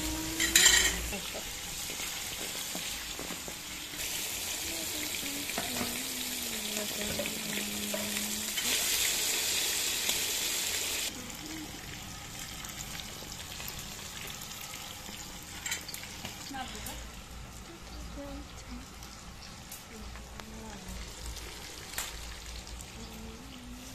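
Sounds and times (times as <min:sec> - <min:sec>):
onions sizzling in hot oil: 0:00.0 - 0:23.9.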